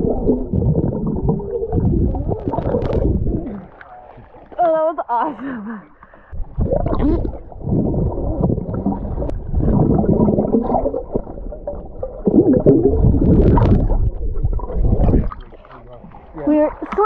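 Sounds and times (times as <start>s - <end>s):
water gurgling and bubbling: 0.0s - 4.9s, 6.2s - 17.0s
low underwater rumble: 0.0s - 5.0s, 5.9s - 17.0s.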